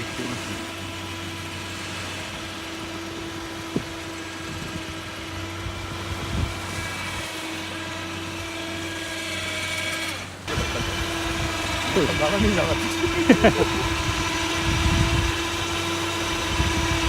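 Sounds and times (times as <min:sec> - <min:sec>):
winch motor humming: 0:00.0 - 0:17.0.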